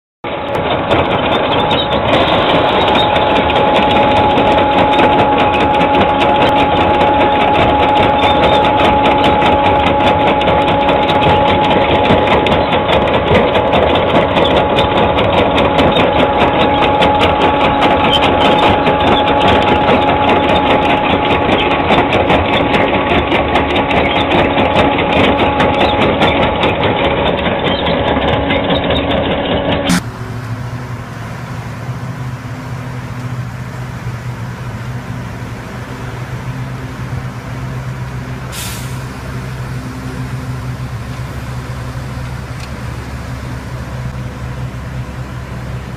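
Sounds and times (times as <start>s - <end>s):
machine engine and hydraulics whining: 0.2s - 45.9s.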